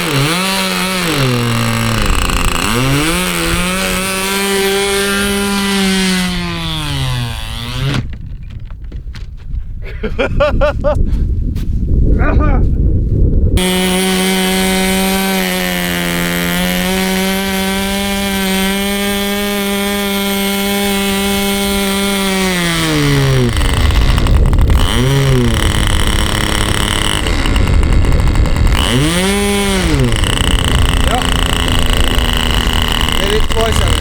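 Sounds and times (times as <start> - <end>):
model airplane engine running: 0.0 - 8.2, 13.6 - 34.0.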